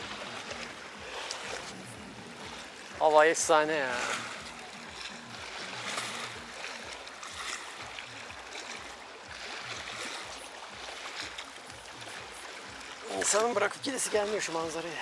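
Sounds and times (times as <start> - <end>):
faint music: 0.0 - 15.0
sea waves washing on beach: 0.0 - 15.0.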